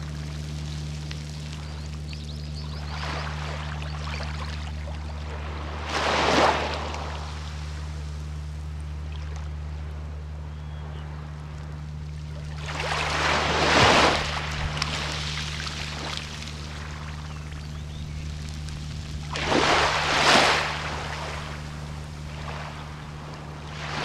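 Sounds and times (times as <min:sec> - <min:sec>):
small waves breaking: 0:00.0 - 0:10.1, 0:11.1 - 0:24.0
gentle wash of water: 0:00.0 - 0:10.4, 0:11.3 - 0:24.0
steady low hum: 0:00.0 - 0:24.0.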